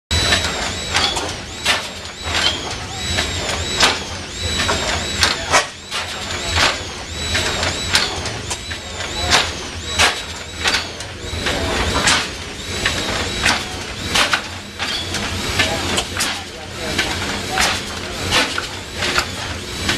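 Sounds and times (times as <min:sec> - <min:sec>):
high squeak: 0:00.1 - 0:19.4
engine sharp knocks: 0:00.1 - 0:19.9
gas engine low throb: 0:00.1 - 0:19.9.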